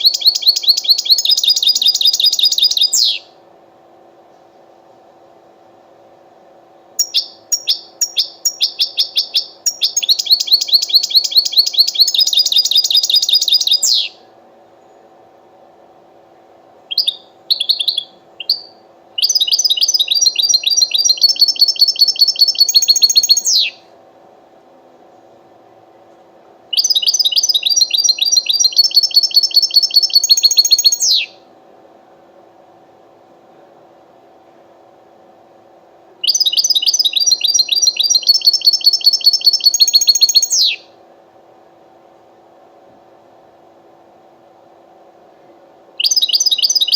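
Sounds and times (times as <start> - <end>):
faint steady hum: 0.0 - 46.9.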